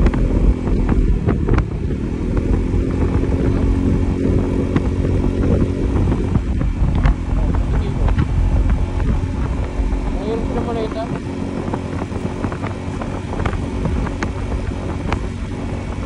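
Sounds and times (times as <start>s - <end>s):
motorcycle engine cruising: 0.0s - 16.0s
wind rumbling on microphone: 0.0s - 16.0s.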